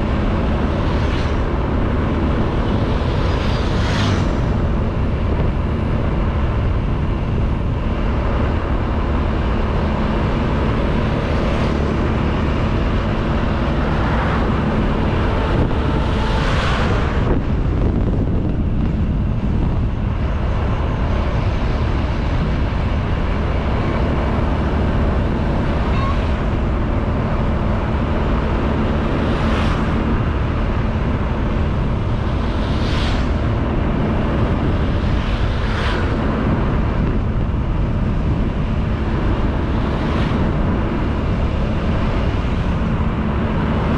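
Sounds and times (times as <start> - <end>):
wind noise on microphone: 0.0 - 43.9.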